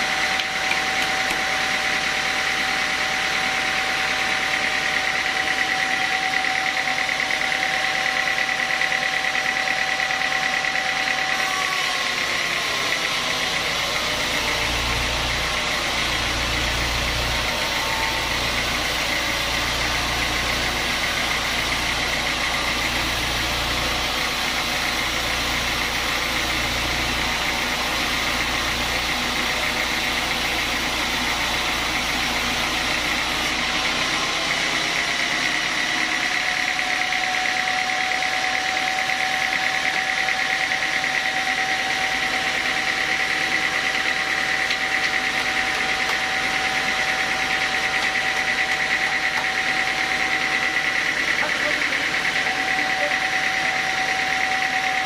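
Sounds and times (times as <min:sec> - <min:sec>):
band sawmill sawing log: 0:00.0 - 0:55.0.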